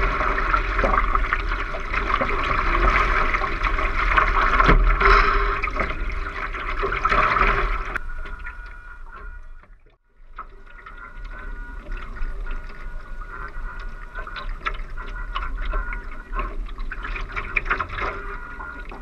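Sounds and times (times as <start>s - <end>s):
steady high whine: 0.0s - 19.0s
water rushing along hull: 0.0s - 19.0s.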